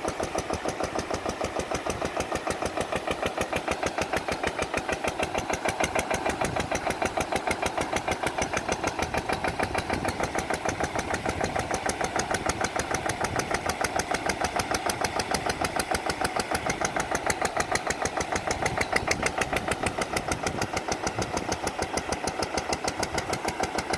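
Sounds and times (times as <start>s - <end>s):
small engine running: 0.0s - 23.9s.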